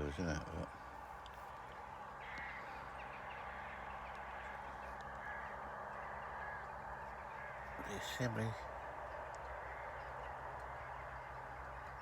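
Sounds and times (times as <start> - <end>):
flock of crows cawing: 0.0 - 12.0.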